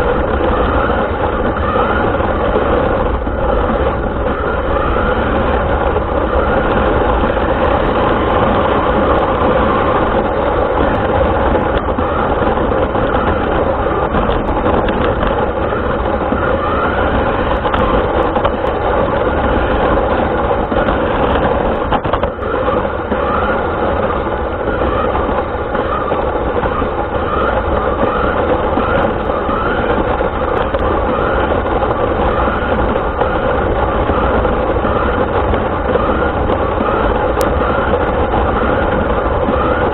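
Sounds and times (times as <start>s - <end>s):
rising motor whines: 0.0s - 39.9s
toy car motor and tyre noise: 0.0s - 39.9s.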